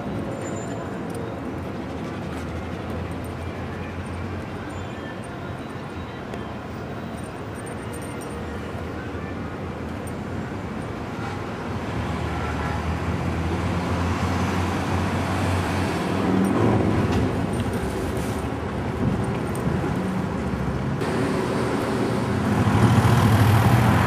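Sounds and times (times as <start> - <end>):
cars passing in a steady rumble: 0.0 - 24.0.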